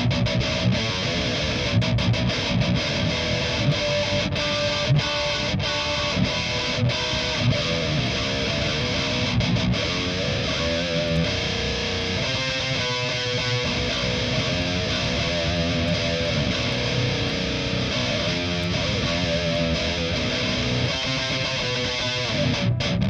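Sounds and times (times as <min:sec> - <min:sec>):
distorted electric guitar riff: 0:00.0 - 0:23.0.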